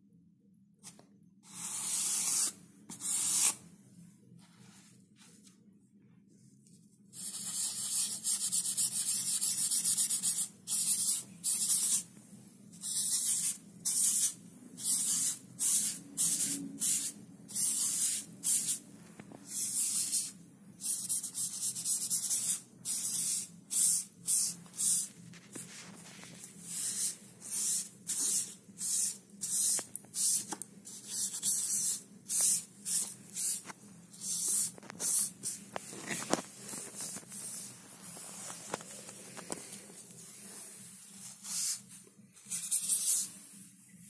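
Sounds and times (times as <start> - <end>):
pastel rubbing on paper: 1.5 - 3.6, 7.1 - 12.1, 12.8 - 43.4.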